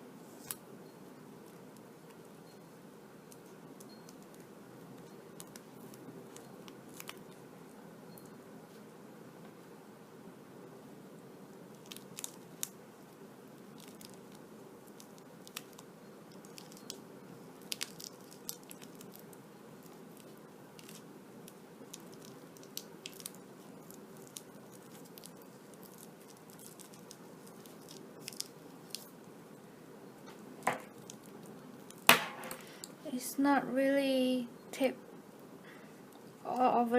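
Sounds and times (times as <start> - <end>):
low background hum: 0.0 - 36.9.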